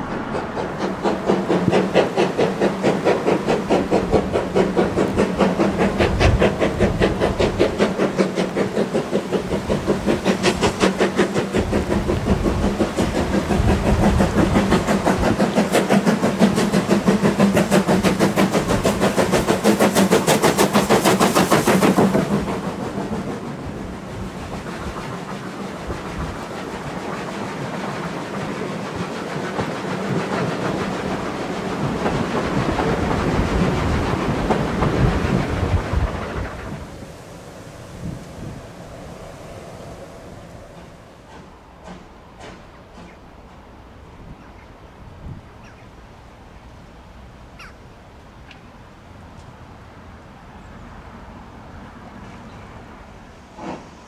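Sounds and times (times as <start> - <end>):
train wheels clicking: 0.0 - 45.9, 52.2 - 54.0
steam locomotive chuffing: 0.0 - 47.8, 52.0 - 54.0
train rumbling on track: 0.0 - 54.0.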